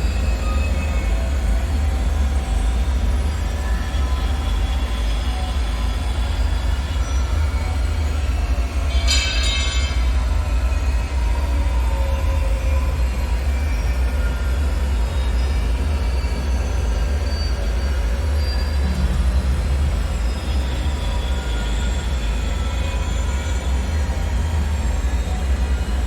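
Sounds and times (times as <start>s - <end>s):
faint metallic whines and squeals: 0.0s - 26.0s.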